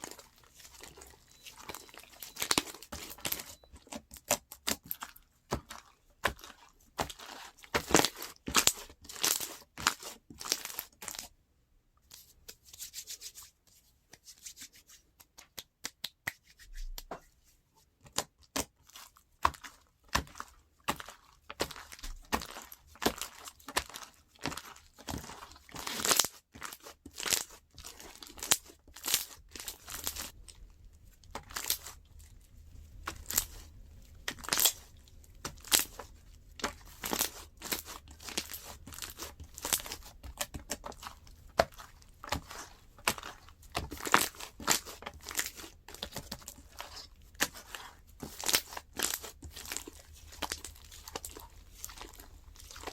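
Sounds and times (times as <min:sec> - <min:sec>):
slime squishing with sticky crackles: 0:00.0 - 0:11.4, 0:14.0 - 0:52.9.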